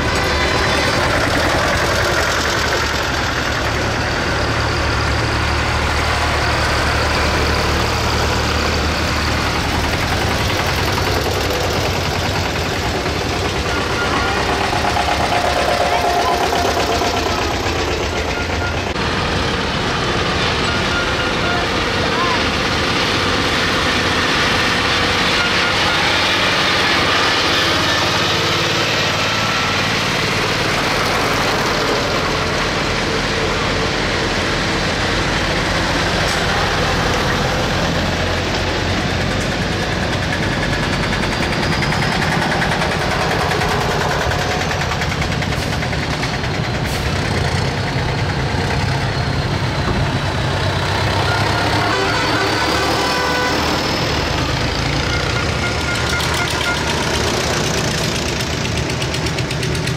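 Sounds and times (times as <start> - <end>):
tractor engines droning: 0.0 - 59.9.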